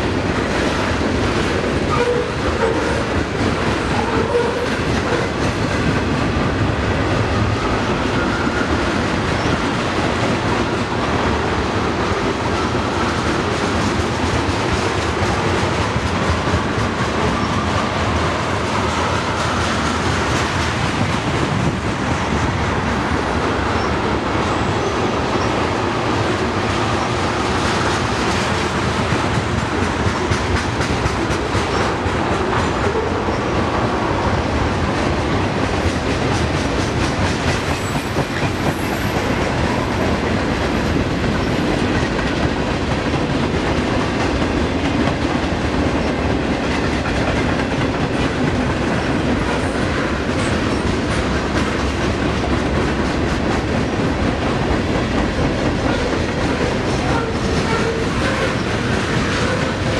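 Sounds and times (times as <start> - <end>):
freight train rumbling past: 0.0 - 59.9
steel wheels clattering on rails: 0.0 - 59.9.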